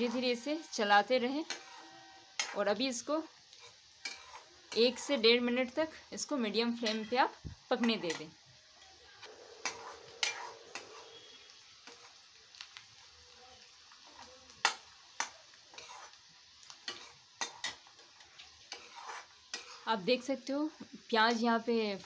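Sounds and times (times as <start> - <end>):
metal spoon scraping a pan: 0.0 - 8.3, 9.2 - 12.8, 13.6 - 20.3
vegetables sizzling in oil: 0.0 - 22.0.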